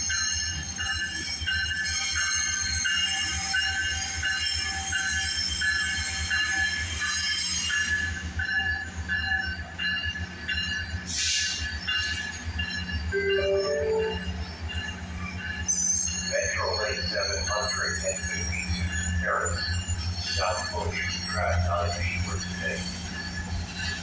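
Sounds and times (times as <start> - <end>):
train wheels squealing: 0.0 - 24.0.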